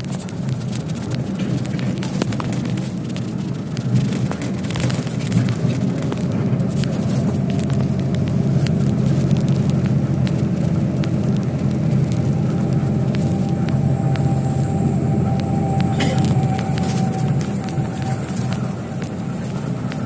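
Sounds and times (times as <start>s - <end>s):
cab clicks and rattles: 0.0s - 20.0s
vehicle engine and road rumble: 0.0s - 20.0s.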